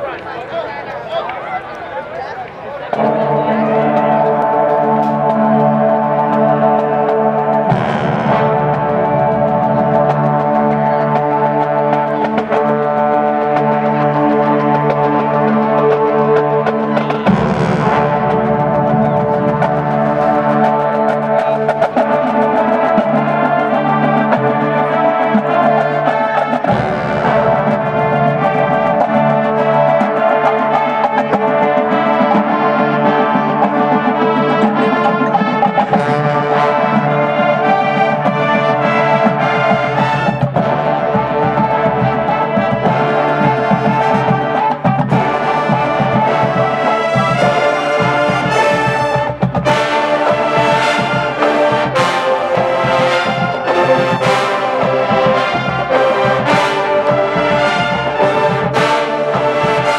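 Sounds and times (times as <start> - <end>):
marching band brass playing: 2.7 - 59.9.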